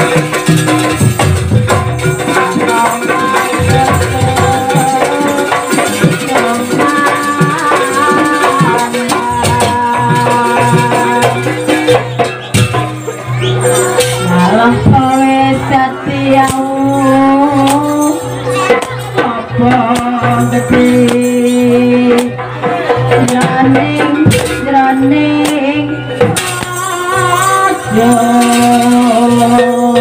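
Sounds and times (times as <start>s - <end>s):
drums: 0.0s - 30.0s
gamelan music: 0.0s - 30.0s
rattling percussion: 0.0s - 30.0s.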